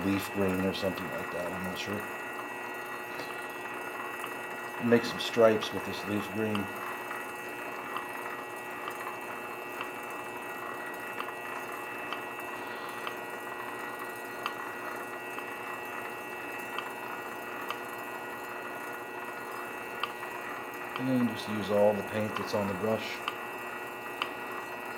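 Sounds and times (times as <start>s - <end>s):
lathe motor hum and whine: 0.0s - 24.9s.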